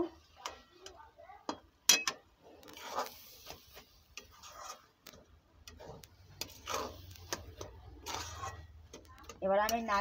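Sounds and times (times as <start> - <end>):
metal spatula scraping metal pan: 1.9 - 10.0.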